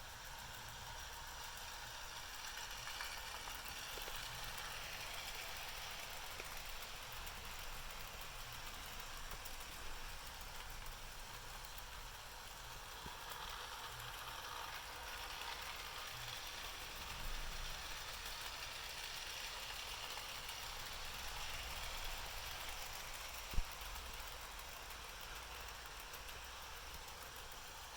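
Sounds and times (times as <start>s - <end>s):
model train motors whirring: 0.0s - 27.9s.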